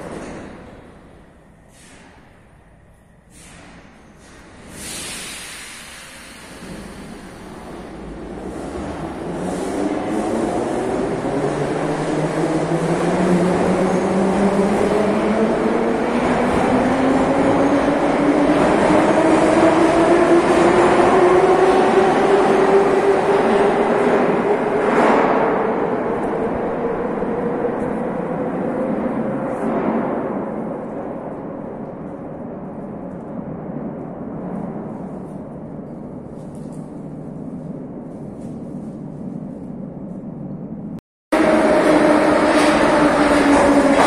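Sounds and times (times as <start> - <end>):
low rumble of station platform: 0.0 - 44.0
train arriving with rushing rumble: 0.0 - 44.0.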